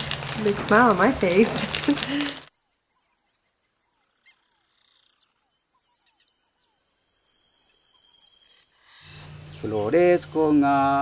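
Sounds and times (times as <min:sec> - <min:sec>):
high-pitched insect hum: 0:01.1 - 0:11.0.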